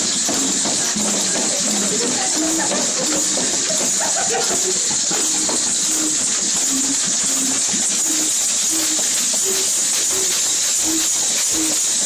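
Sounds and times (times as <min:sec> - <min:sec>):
shakers and rattles hissing: 0:00.0 - 0:12.0.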